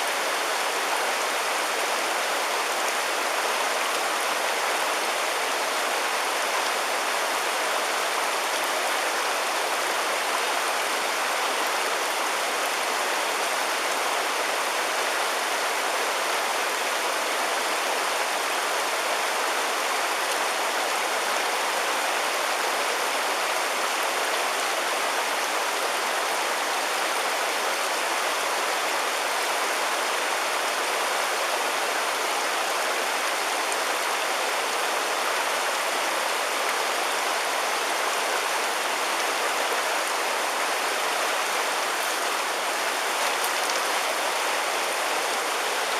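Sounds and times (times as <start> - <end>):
river water rushing: 0.0 - 45.9.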